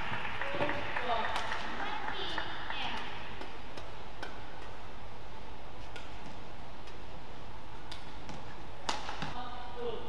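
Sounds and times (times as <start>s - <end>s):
indoor arena hum: 0.0s - 10.0s.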